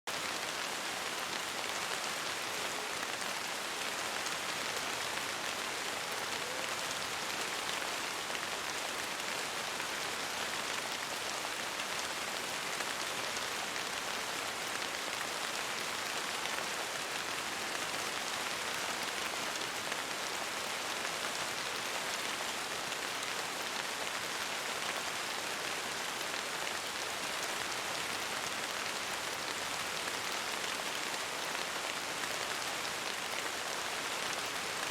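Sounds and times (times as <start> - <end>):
steady rain hiss: 0.1 - 34.9.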